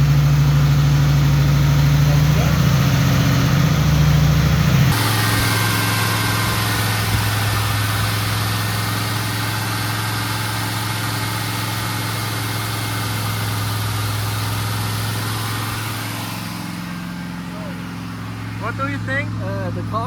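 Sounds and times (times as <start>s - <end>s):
car engine at raised revs: 0.0s - 20.0s.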